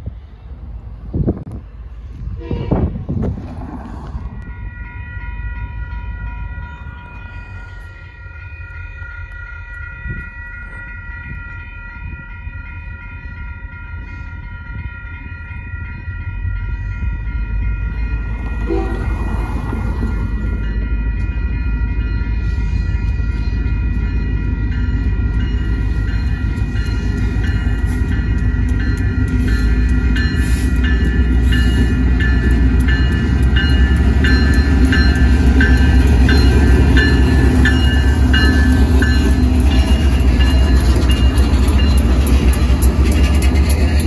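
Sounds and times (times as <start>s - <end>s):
freight train rumble: 0.0s - 44.0s
crossing warning bell ringing: 4.3s - 44.0s.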